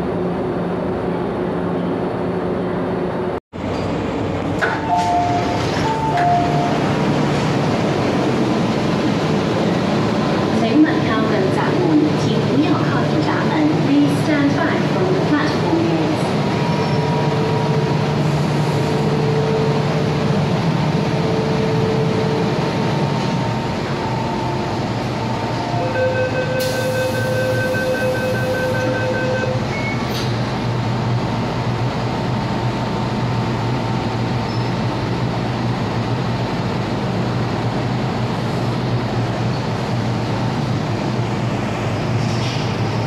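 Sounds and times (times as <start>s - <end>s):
electric train rumbling: 0.0s - 43.0s.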